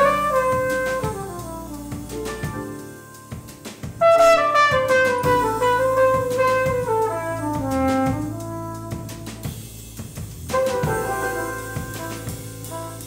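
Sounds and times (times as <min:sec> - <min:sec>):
bass: 0:00.0 - 0:13.0
drum kit with cymbals: 0:00.0 - 0:13.0
flugelhorn playing jazz melody: 0:00.0 - 0:13.0.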